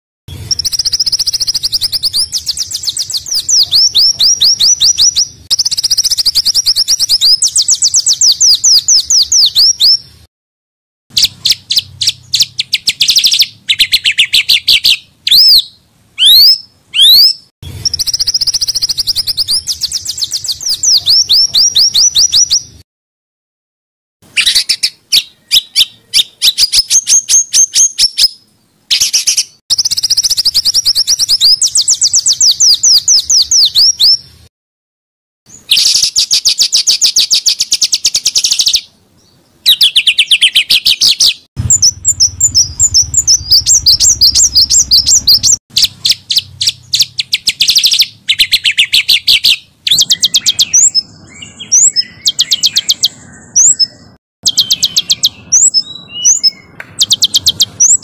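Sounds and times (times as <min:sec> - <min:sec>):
slurred bird whistles: 0:00.3 - 0:10.1, 0:11.1 - 0:22.8, 0:24.3 - 0:34.3, 0:35.5 - 0:38.9, 0:39.6 - 0:58.0
songbirds singing harsh phrases: 0:00.3 - 0:10.3, 0:11.1 - 0:22.8, 0:24.2 - 0:34.4, 0:35.5 - 0:58.0.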